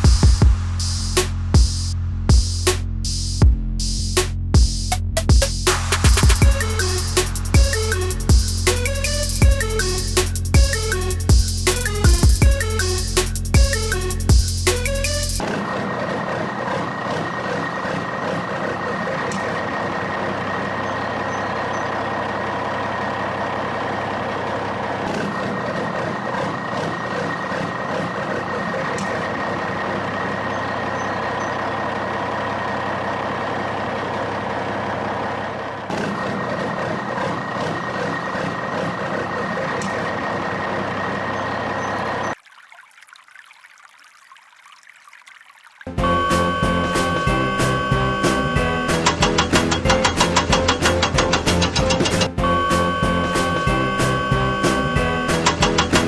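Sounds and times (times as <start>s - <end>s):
truck engine running: 0.0s - 15.4s, 16.9s - 42.4s, 45.9s - 56.0s.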